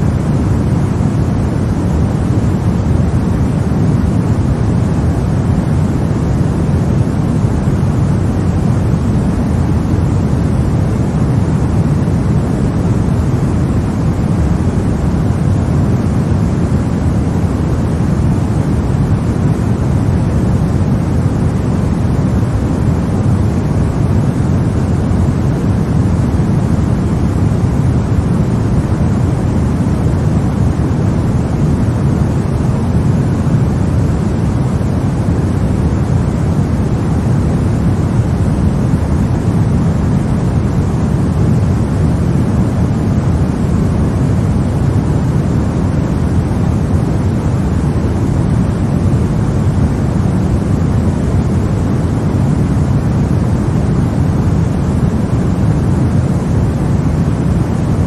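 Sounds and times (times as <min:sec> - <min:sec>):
deep white noise hiss: 0:00.0 - 0:58.0.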